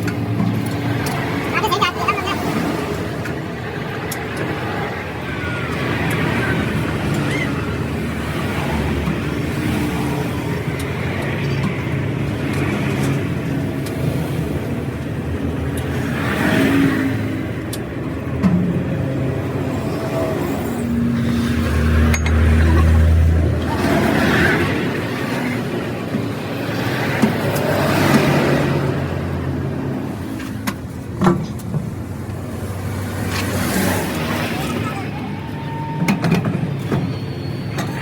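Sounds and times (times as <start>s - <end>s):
passing traffic: 0.0s - 38.0s.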